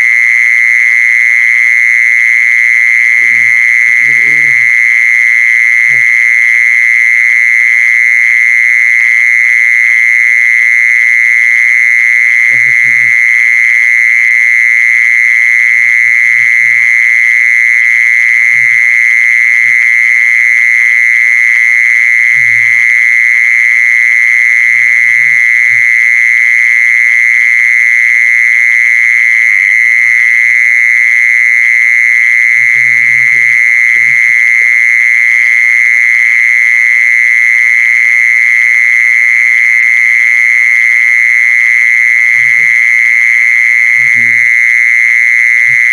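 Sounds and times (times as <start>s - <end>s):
insect trill: 0.0s - 45.9s.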